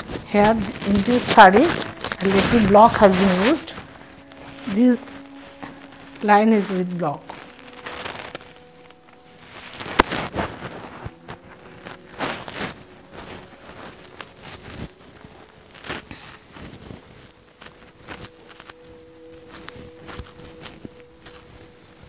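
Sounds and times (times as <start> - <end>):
silk fabric rustling: 0.0 - 22.0.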